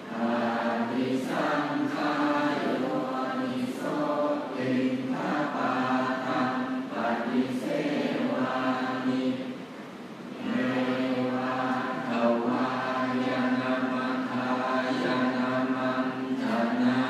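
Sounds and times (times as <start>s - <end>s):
monks chanting in unison: 0.0s - 9.7s, 10.3s - 17.0s.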